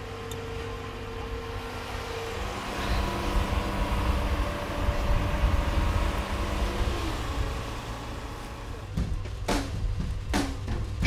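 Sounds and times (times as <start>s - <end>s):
mobile sawmill running: 0.0s - 9.5s.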